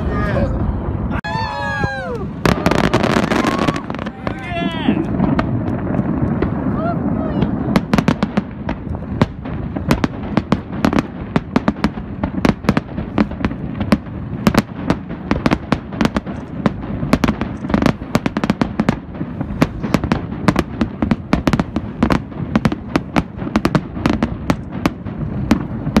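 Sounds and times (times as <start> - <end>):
continuous low rumble: 0.0 - 26.0
firework shells bursting: 2.4 - 6.8, 7.4 - 26.0.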